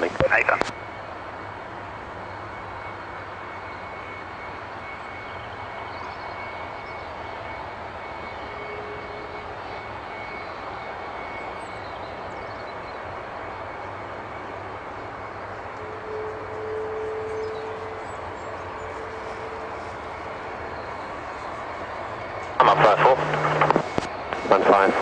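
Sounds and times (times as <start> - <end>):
jet engine whine and roar: 0.0 - 25.0.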